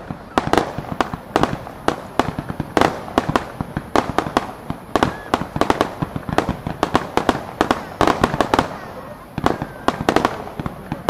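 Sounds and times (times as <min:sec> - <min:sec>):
fireworks bangs and pops: 0:00.0 - 0:11.0
fireworks crackling hiss: 0:00.0 - 0:11.0.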